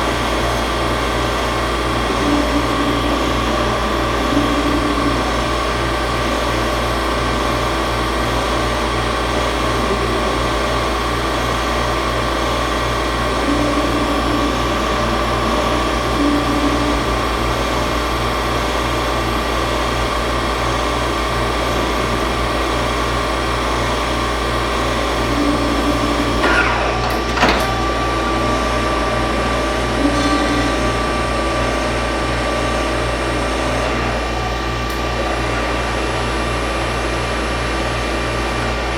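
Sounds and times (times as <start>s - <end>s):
milling machine hum and whine: 0.0s - 38.9s.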